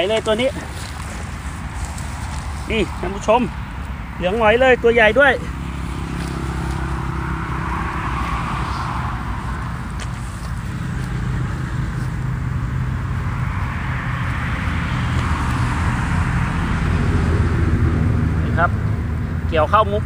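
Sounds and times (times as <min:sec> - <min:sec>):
vehicle engines passing: 0:00.0 - 0:20.0.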